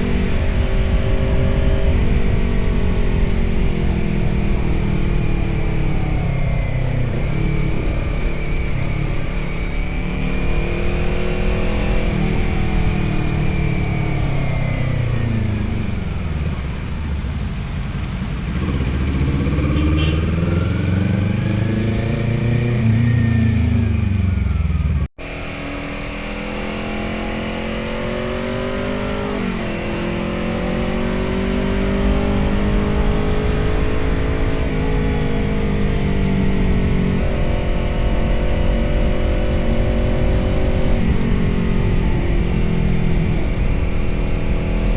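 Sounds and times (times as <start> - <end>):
motorcycle engine and exhaust: 0.0 - 44.9.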